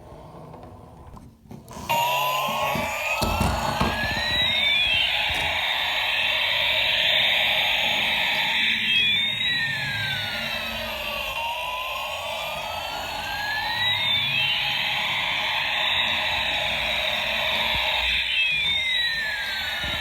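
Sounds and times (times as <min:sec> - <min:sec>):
electronic gliding tones: 0:01.8 - 0:20.0.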